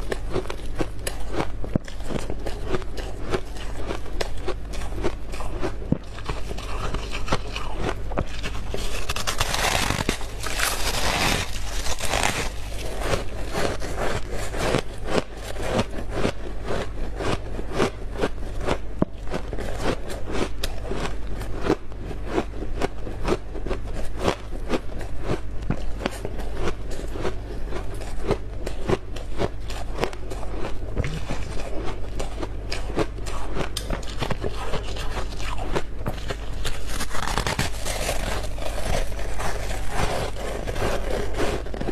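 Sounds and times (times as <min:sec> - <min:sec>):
frost being crunched by chewing: 0:00.0 - 0:41.9.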